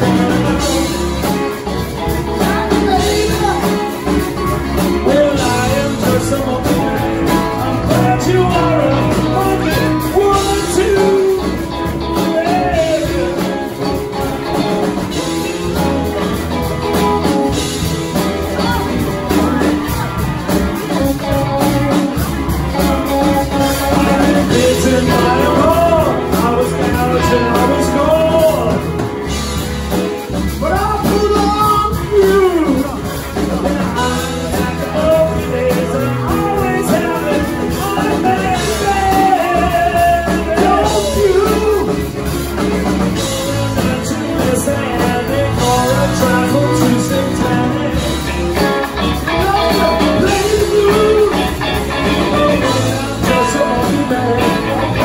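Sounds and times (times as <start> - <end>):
bass guitar: 0.0 - 55.0
drum kit: 0.0 - 55.0
electric guitars: 0.0 - 55.0
man singing: 0.0 - 55.0.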